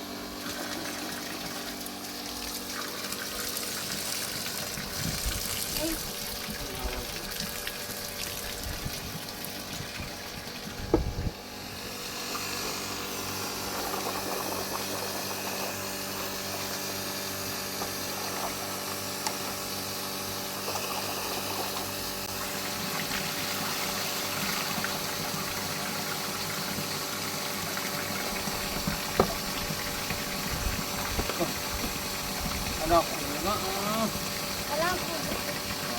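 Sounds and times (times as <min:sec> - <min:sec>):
small motor humming: 0:00.0 - 0:35.9.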